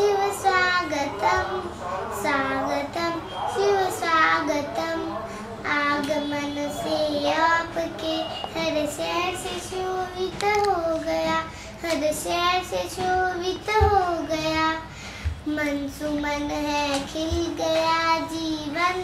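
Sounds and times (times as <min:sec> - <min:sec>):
girl singing unaccompanied: 0:00.0 - 0:19.0.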